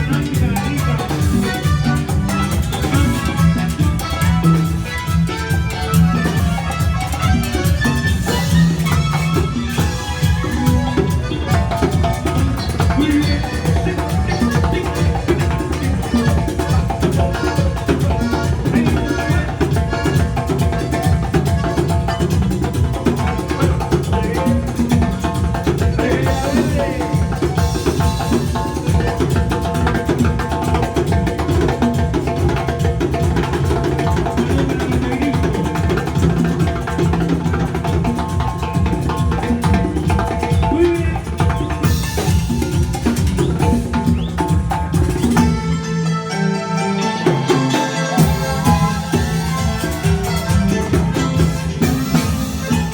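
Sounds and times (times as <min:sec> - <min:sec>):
band playing dance music: 0:00.0 - 0:52.9
fast percussion beat: 0:00.0 - 0:52.9.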